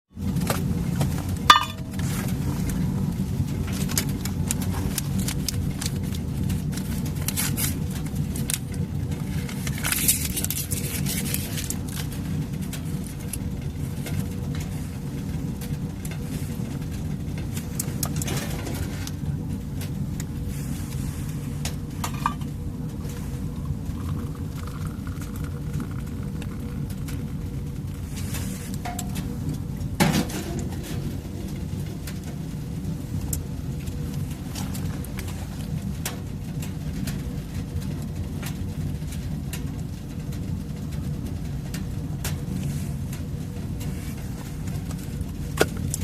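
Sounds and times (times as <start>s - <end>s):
steady low rumble: 0.1s - 46.0s.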